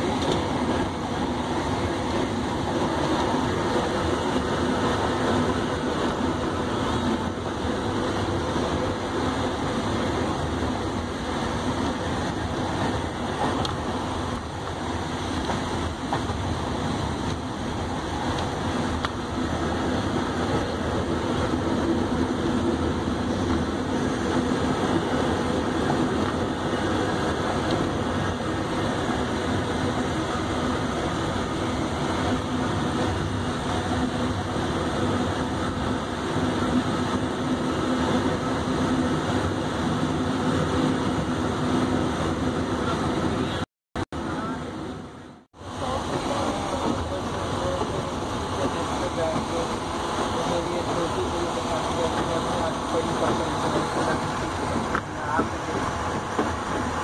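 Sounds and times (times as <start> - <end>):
train wheels rolling on rails: 0.0 - 43.6, 44.2 - 57.0
train coach rumble and rattle: 0.0 - 57.0.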